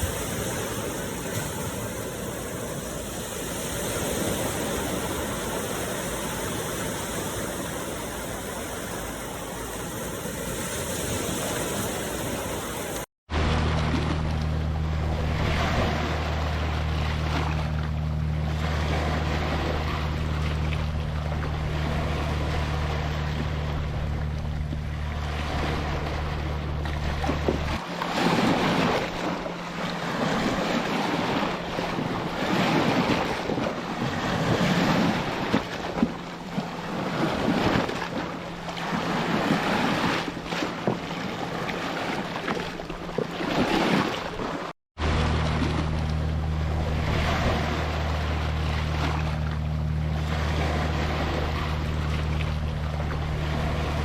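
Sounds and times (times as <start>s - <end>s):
low mechanical hum: 0.0s - 43.5s, 45.0s - 54.0s
ocean waves breaking on beach: 0.0s - 54.0s.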